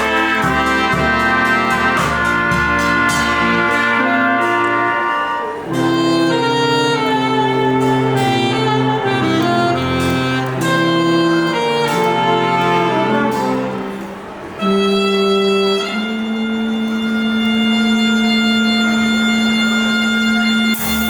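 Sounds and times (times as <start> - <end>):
jazz band with saxophones and brass: 0.0 - 21.0.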